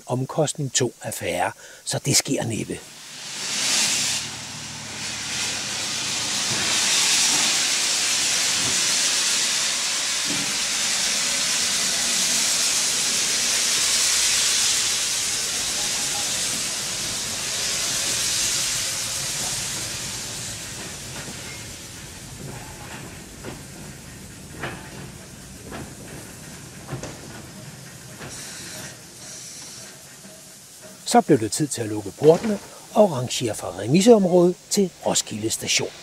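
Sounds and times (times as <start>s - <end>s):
steam locomotive hissing: 0.0s - 36.0s.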